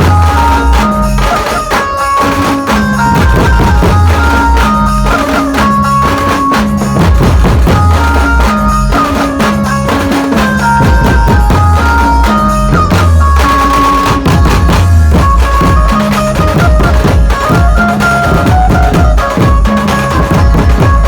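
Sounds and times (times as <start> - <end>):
drum strokes: 0.0 - 21.0
melody of held notes: 0.0 - 21.0
stepping bass line: 0.0 - 21.0.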